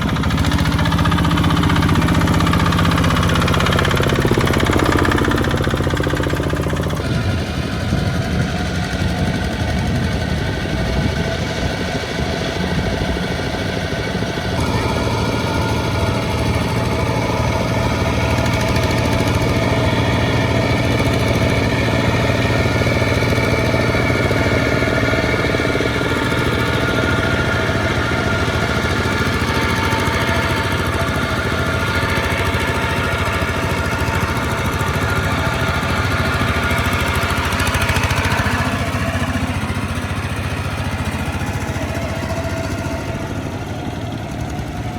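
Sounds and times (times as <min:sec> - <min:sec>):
small tractor diesel engines: 0:00.0 - 0:44.9.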